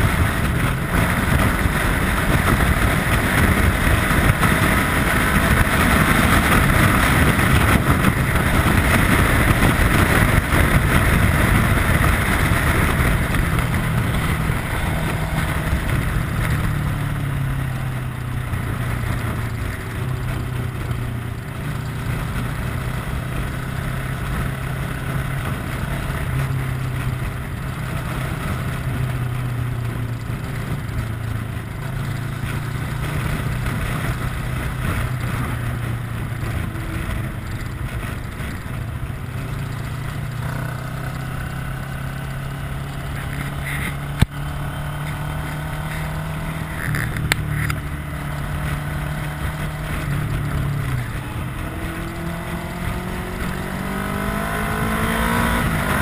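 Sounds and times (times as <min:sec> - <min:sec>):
motorcycle engine cruising: 0:00.0 - 0:56.0
wind and road rush: 0:00.0 - 0:56.0.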